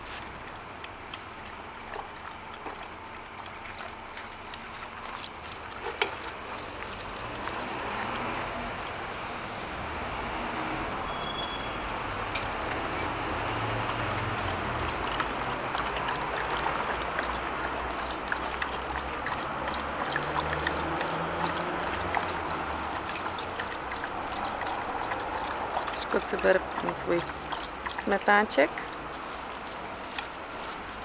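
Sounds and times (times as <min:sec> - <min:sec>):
dogs lapping water: 0:00.0 - 0:31.0.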